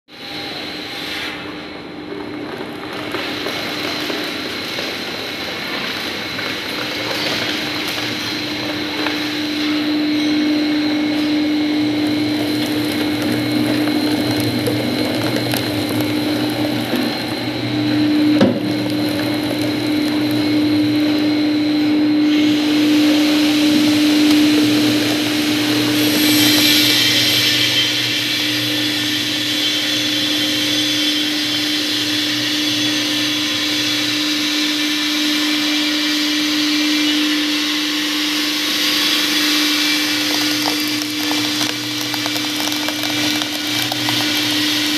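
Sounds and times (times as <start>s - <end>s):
shredder shredding cardboard: 2.2s - 36.7s, 37.4s - 44.9s.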